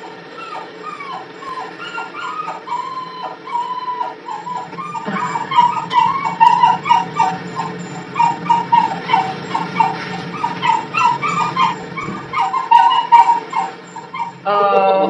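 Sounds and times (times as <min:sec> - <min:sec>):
small animal yelping: 0:00.0 - 0:15.0
steady low hum: 0:00.0 - 0:15.0.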